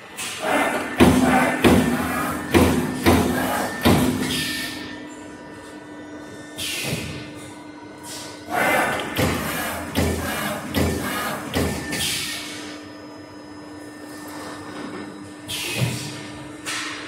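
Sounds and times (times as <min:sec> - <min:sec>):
machine hum: 0:00.0 - 0:16.8.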